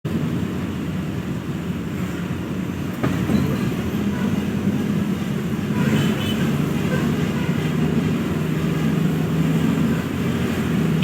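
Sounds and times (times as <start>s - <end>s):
diesel bus engine rumbling: 0.1s - 11.0s.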